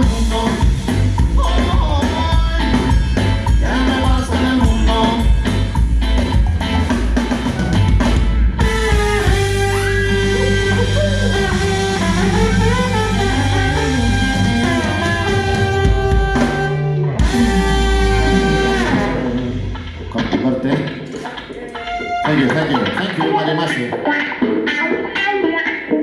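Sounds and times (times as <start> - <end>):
drum kit: 0.0 - 23.2
electric guitar: 0.0 - 26.0
live band playing: 0.0 - 26.0.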